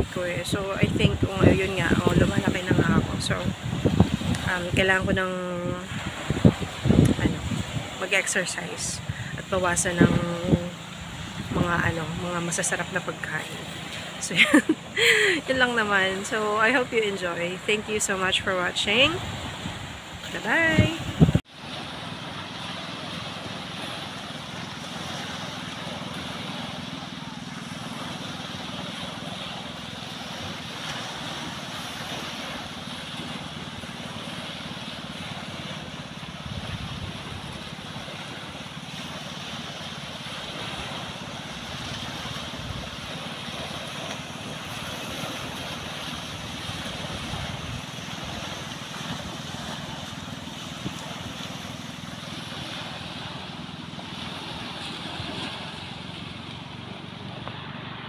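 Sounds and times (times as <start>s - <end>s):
waves washing onto sand: 0.0s - 58.0s
wind rumbling on microphone: 0.0s - 58.0s.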